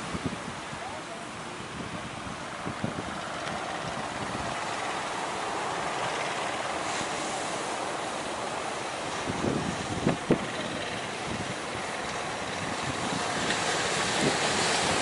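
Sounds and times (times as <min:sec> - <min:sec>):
sea surf washing: 0:00.0 - 0:15.0
wind on microphone: 0:00.0 - 0:15.0.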